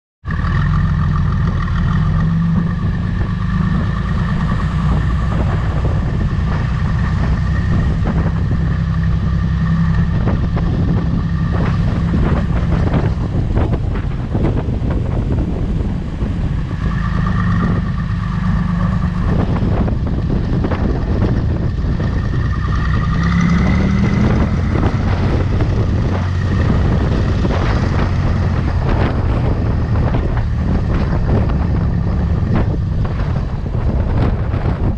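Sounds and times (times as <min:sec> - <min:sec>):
tractor diesel engine running: 0:00.2 - 0:34.9
knocks and rattles: 0:00.5 - 0:34.9.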